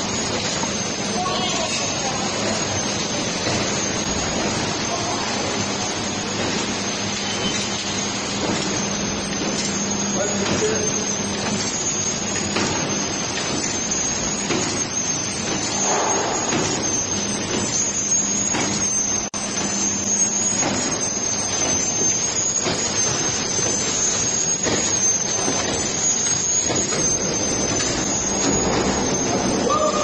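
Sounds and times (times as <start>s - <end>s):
noodle machine running: 0.0s - 30.0s.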